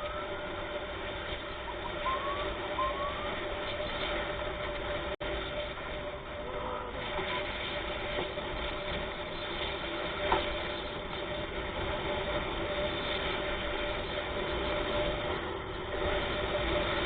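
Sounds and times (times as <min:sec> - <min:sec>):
vehicle road noise: 0:00.0 - 0:17.0.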